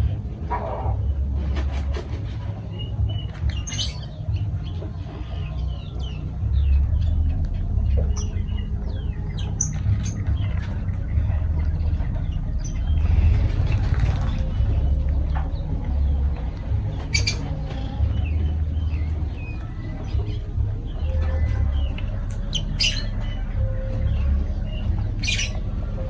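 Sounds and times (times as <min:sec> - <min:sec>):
lovebirds chirping: 0:00.0 - 0:26.0
steady low rumble: 0:00.0 - 0:26.0.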